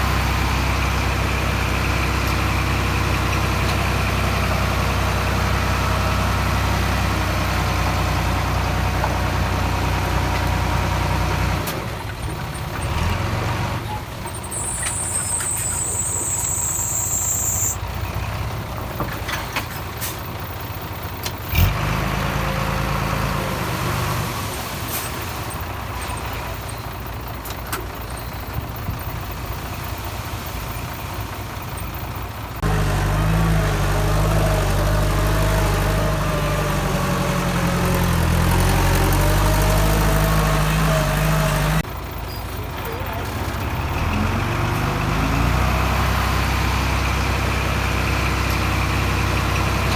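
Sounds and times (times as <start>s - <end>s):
earthmoving machinery diesel engines: 0.0s - 49.9s.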